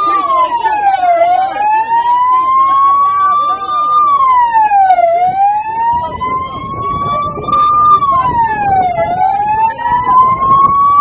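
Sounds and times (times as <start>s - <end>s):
wailing siren: 0.0s - 11.0s.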